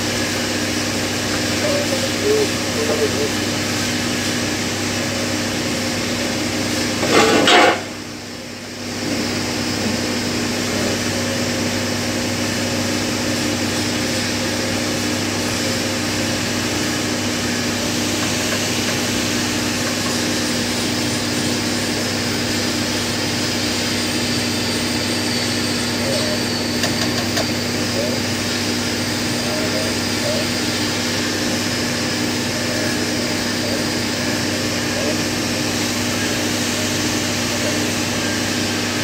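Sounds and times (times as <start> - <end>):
machine hum with tones: 0.0 - 39.0.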